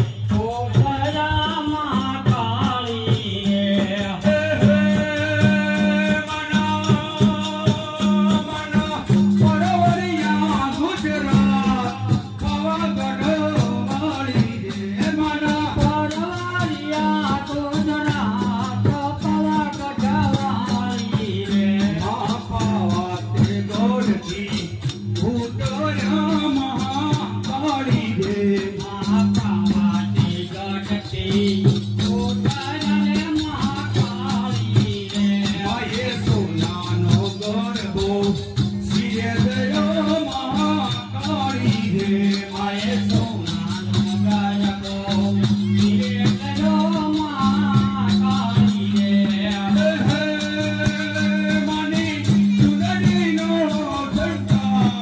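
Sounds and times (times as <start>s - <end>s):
rattling percussion beat: 0.0s - 55.0s.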